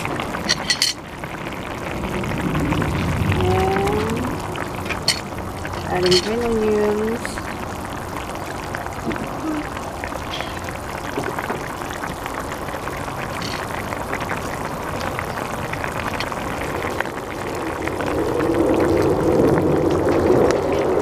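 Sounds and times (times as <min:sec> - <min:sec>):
broth simmering and bubbling: 0:00.0 - 0:21.0.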